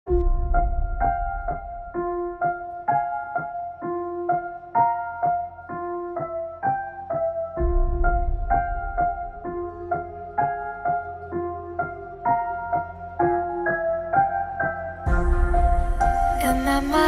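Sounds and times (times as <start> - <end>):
slow repeating piano notes: 0.1 - 17.0.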